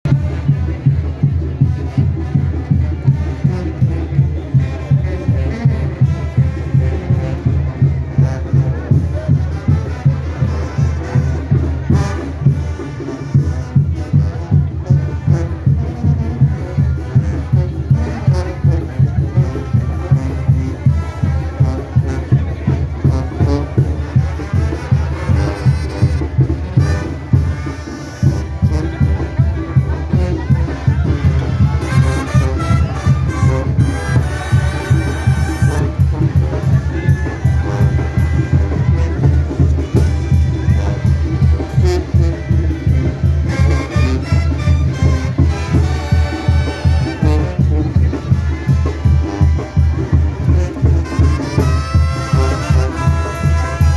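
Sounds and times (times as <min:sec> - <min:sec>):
brass band playing: 0:00.1 - 0:53.9
drum beats: 0:00.1 - 0:53.9.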